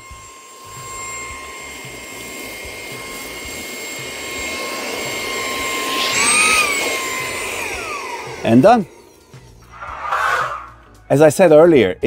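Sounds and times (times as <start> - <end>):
handheld vacuum cleaner whining: 0.0 - 10.8.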